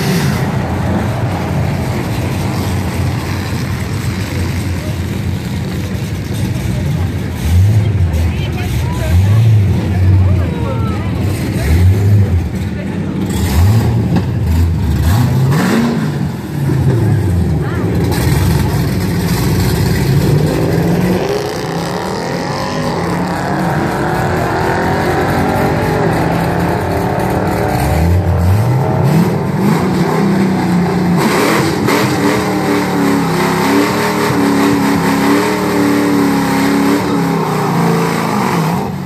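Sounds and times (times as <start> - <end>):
car engine revving: 0.0 - 39.0
tires spinning: 0.0 - 39.0.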